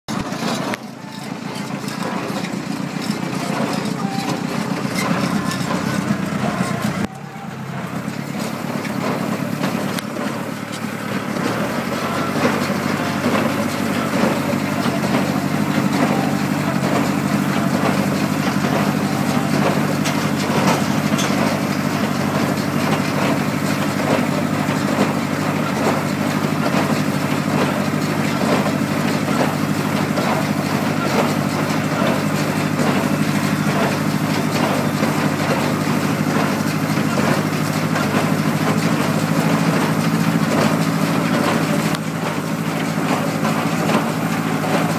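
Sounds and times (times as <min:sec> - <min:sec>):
tractor engine running: 0:00.0 - 0:44.9
hay baler clattering: 0:00.1 - 0:44.9.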